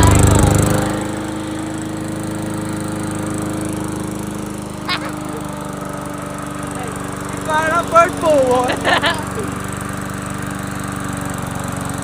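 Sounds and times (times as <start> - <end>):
lawnmower engine idling: 0.0 - 12.0.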